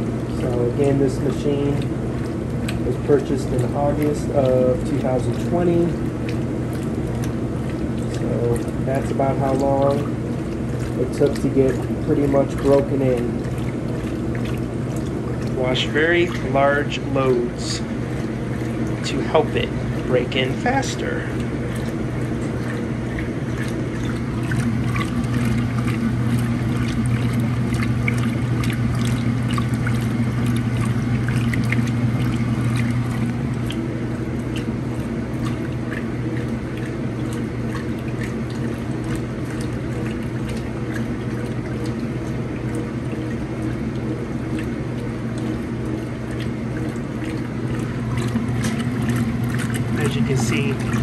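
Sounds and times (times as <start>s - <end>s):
washing machine motor hum: 0.0s - 51.0s
water churning and sloshing: 0.0s - 51.0s.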